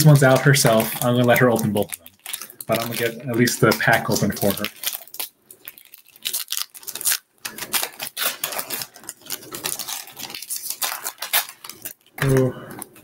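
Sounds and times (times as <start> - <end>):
foil pack tearing and crinkling: 0.0 - 12.9.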